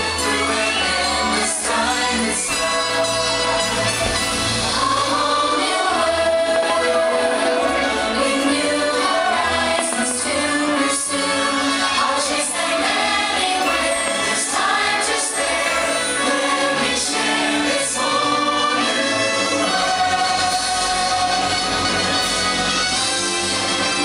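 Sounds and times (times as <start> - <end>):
choir singing: 0.0 - 24.0
orchestral music: 0.0 - 24.0.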